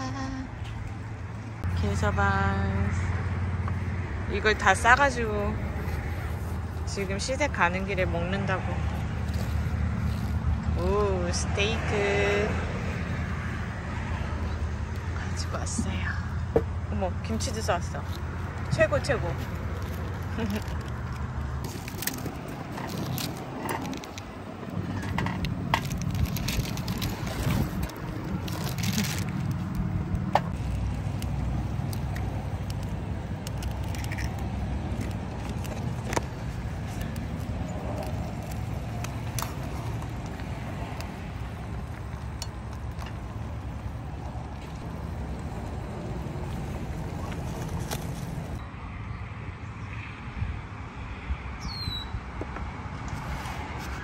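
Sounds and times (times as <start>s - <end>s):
camp stove rumble: 3.6s - 48.6s.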